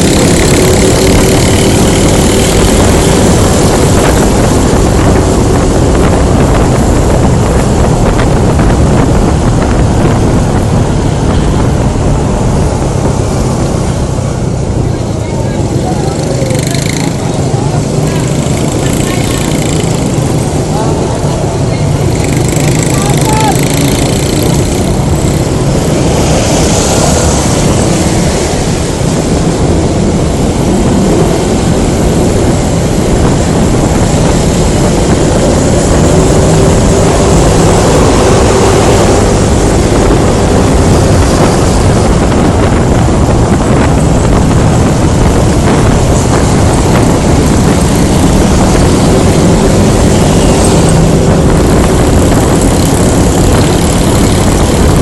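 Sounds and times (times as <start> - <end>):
road traffic: 0.0 - 55.0
scooter engine running: 0.0 - 55.0
wind buffeting microphone: 0.0 - 55.0.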